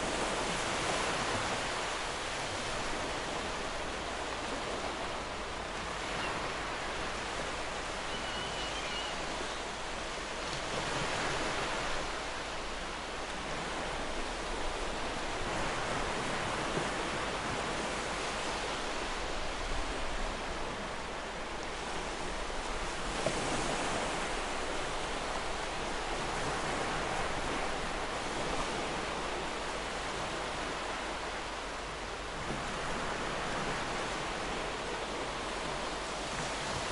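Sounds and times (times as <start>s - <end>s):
ocean surf washing: 0.0s - 36.9s
waves breaking on beach: 0.0s - 36.9s.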